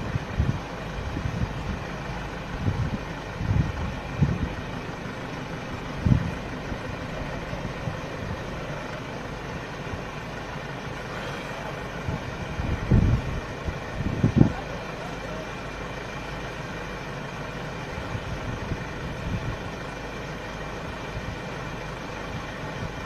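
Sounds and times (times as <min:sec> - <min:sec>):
vehicle engines idling: 0:00.0 - 0:23.0.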